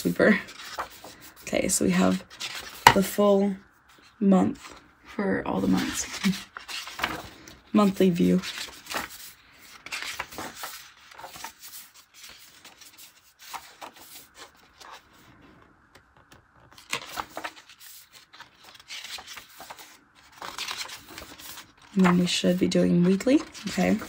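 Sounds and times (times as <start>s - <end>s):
pages turning: 0.0s - 3.2s, 5.6s - 24.0s.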